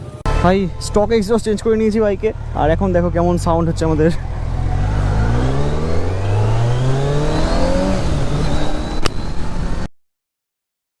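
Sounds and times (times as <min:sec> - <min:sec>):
motorcycle engine revving: 0:00.0 - 0:09.9.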